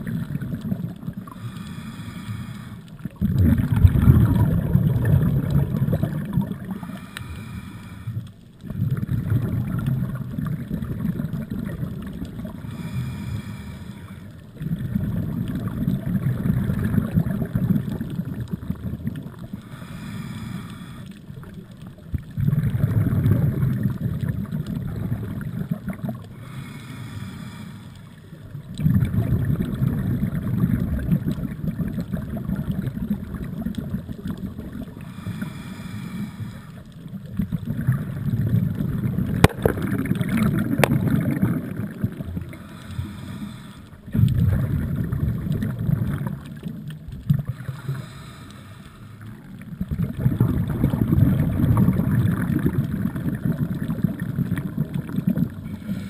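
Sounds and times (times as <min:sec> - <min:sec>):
diver exhaling bubbles underwater: 0:00.0 - 0:07.5, 0:08.1 - 0:13.7, 0:14.6 - 0:26.6, 0:28.2 - 0:48.4, 0:49.2 - 0:56.0.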